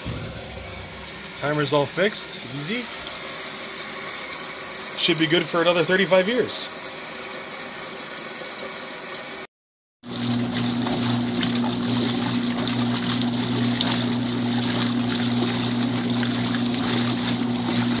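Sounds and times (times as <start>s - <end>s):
washing machine hum: 0.0s - 18.0s
water sloshing in washing machine: 0.0s - 18.0s.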